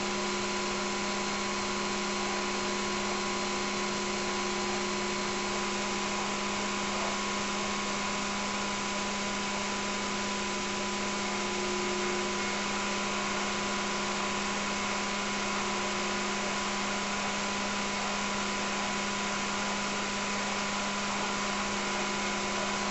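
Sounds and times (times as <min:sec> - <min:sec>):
faint steady whines: 0:00.0 - 0:22.9.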